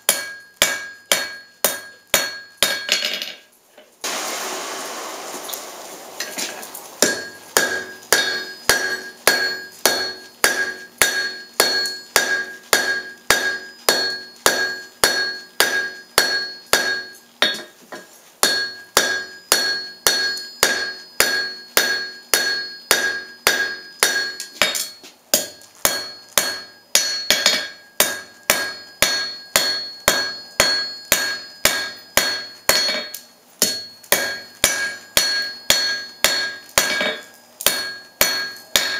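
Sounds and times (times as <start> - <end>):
hammer striking steel on anvil: 0.0 - 3.5, 7.0 - 38.9.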